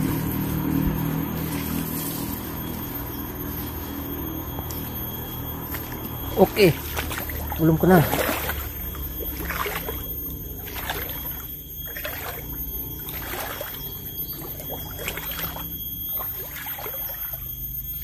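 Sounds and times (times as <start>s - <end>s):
water sloshing from wading: 0.0s - 18.0s.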